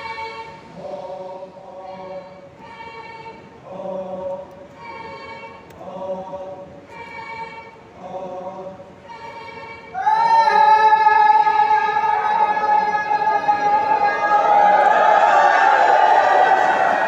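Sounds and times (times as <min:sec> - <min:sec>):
group singing unaccompanied: 0:00.0 - 0:17.0.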